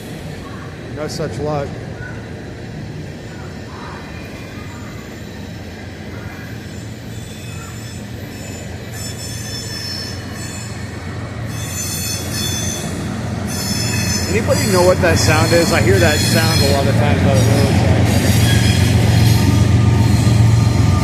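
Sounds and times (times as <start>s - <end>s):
rumble of rolling train: 0.0s - 21.0s
train wheels squealing: 3.3s - 21.0s.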